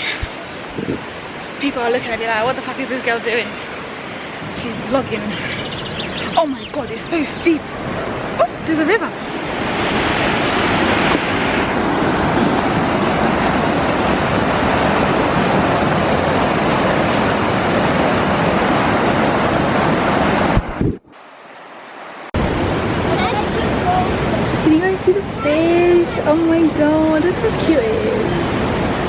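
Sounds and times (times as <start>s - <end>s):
fast-flowing river water: 0.0s - 5.6s, 6.4s - 29.0s.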